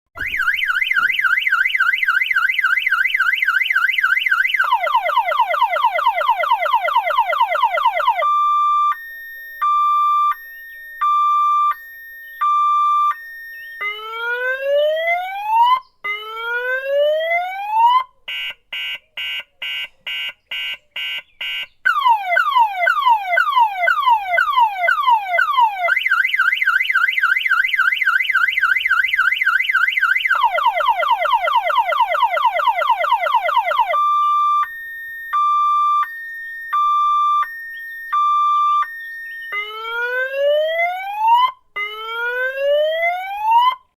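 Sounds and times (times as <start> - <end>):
car alarm siren cycling tones: 0.2 - 43.9.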